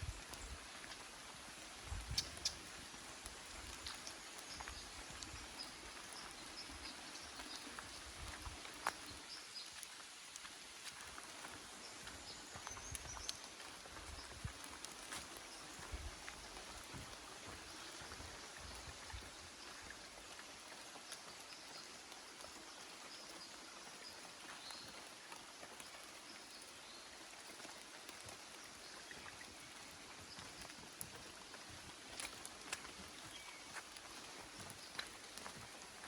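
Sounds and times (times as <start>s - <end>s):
light rain falling: 0.0s - 36.0s
soft footsteps on track: 0.0s - 36.0s.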